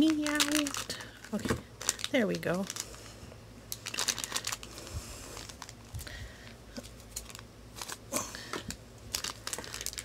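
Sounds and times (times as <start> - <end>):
plastic wrapper crinkling: 0.0 - 3.1, 3.7 - 10.0.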